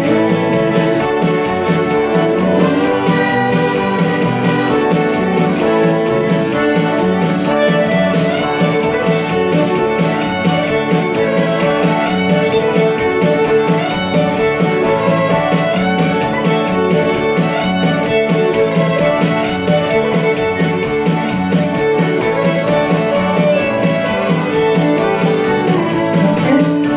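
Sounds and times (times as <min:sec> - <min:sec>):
polka on fiddle accordion and guitar: 0:00.0 - 0:26.9.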